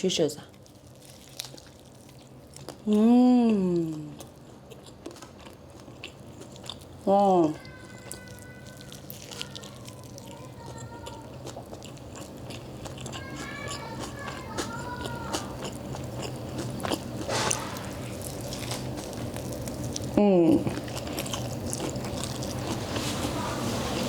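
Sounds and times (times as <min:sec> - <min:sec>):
person chewing crisp food: 0:00.5 - 0:24.0.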